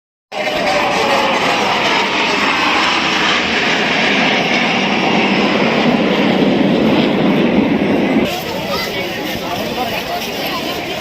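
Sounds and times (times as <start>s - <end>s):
jet aircraft flying overhead: 0.3s - 11.0s.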